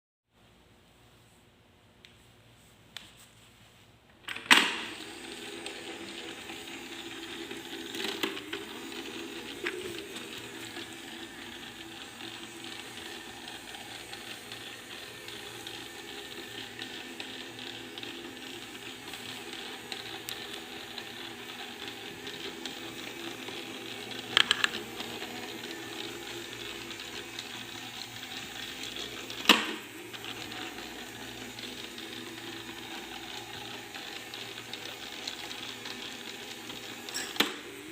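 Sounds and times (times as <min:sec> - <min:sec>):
robot vacuum cleaner whirring: 0:04.3 - 0:37.9.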